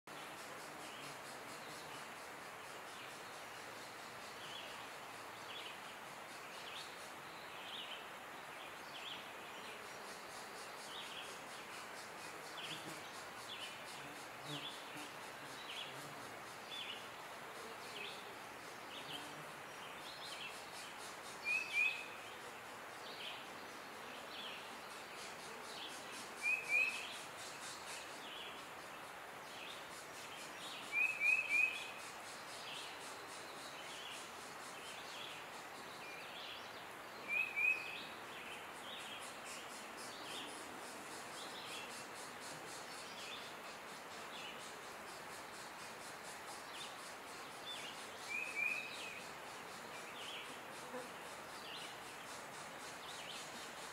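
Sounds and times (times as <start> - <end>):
background hiss: 0.0 - 53.9.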